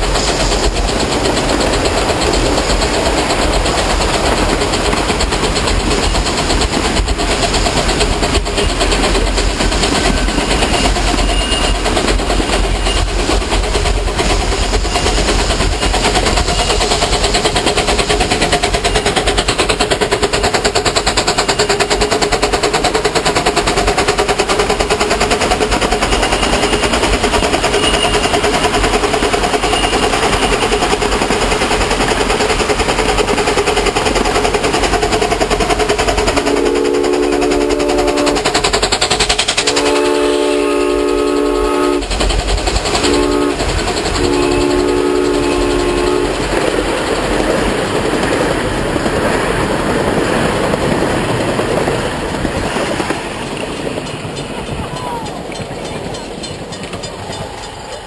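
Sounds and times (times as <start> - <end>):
train clattering on track: 0.0 - 58.0.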